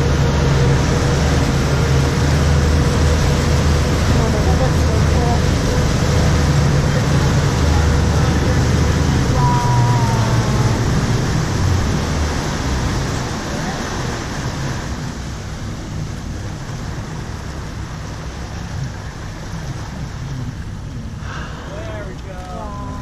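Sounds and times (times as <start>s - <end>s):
low boat engine rumble: 0.0s - 23.0s
water rushing along hull: 0.0s - 23.0s.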